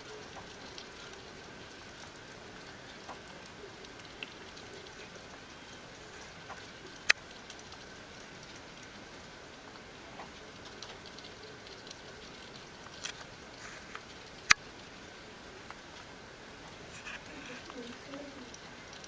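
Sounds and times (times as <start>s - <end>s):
steady hiss: 0.0s - 19.0s
animals eating wet clicking: 0.1s - 9.3s, 10.2s - 15.0s, 15.6s - 19.0s.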